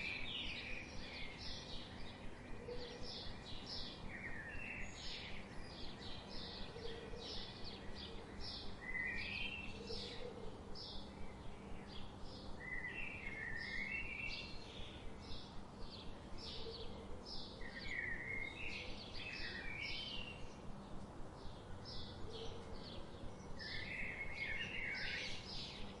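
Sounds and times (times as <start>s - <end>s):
small songbirds chirping: 0.0s - 26.0s.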